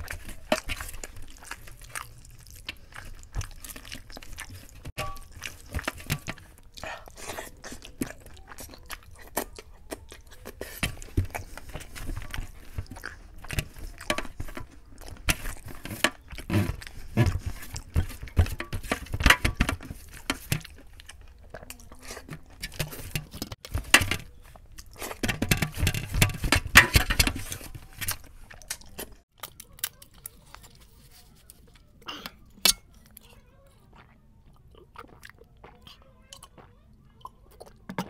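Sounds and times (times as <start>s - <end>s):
chewing and lip smacking: 0.0s - 19.2s, 19.8s - 23.7s, 27.8s - 38.0s.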